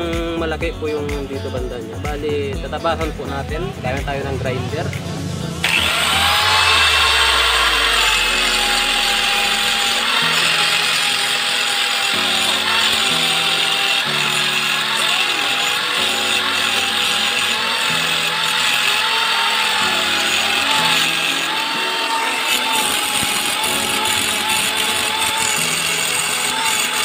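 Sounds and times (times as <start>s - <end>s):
angle grinder grinding metal pipe: 1.4s - 27.0s.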